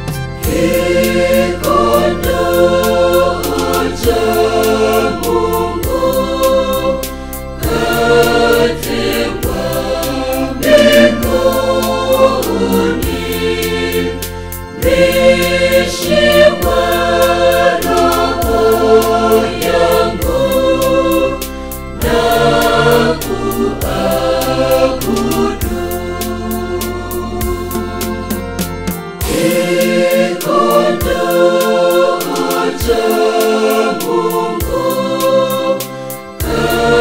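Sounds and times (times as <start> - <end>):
steady percussion beat: 0.0 - 37.0
mixed choir singing a hymn: 0.4 - 37.0.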